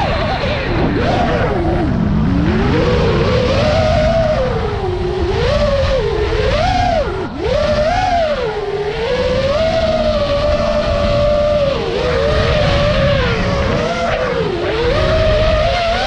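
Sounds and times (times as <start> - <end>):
low rumbling noise: 0.0 - 16.0
quadcopter motors whining: 0.0 - 16.0.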